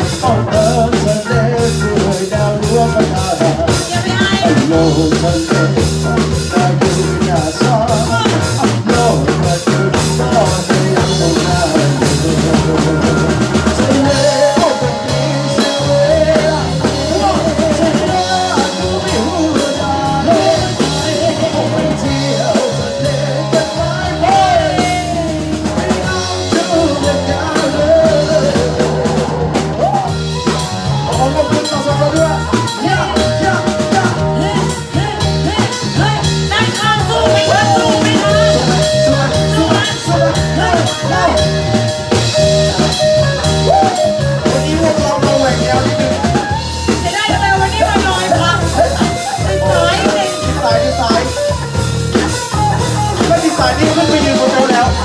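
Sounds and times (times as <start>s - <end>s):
drum kit: 0.0s - 55.0s
electric guitars: 0.0s - 55.0s
sung vocals: 0.0s - 55.0s.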